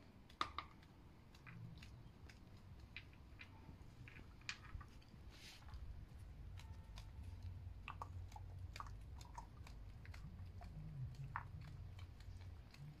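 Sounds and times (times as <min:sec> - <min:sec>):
dog chewing crunchy food: 0:01.3 - 0:13.0.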